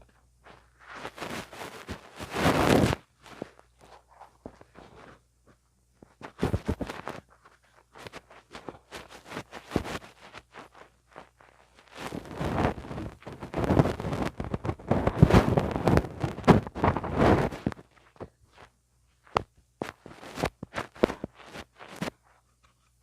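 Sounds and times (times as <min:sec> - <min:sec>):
tools scratching on microphone: 0:00.4 - 0:05.2, 0:06.0 - 0:23.0.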